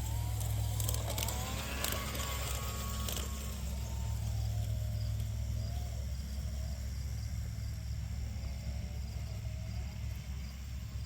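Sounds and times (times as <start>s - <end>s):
faint motor whine: 0.0s - 11.0s
insects chirping: 0.0s - 11.0s
model train motor humming: 0.0s - 11.0s.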